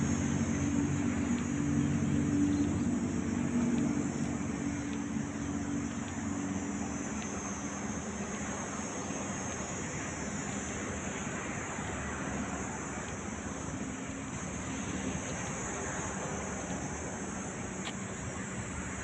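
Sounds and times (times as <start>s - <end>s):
low engine hum: 0.0s - 19.0s
outdoor background noise: 0.0s - 19.0s.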